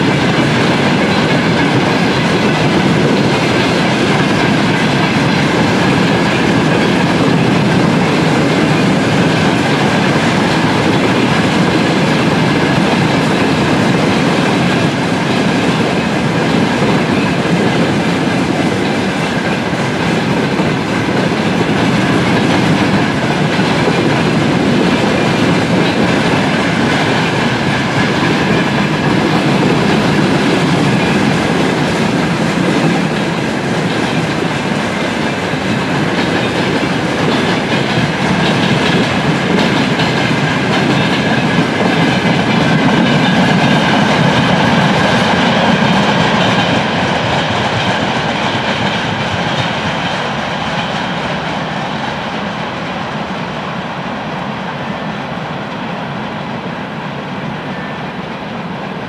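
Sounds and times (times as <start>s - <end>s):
train wagons rolling past: 0.0s - 59.0s.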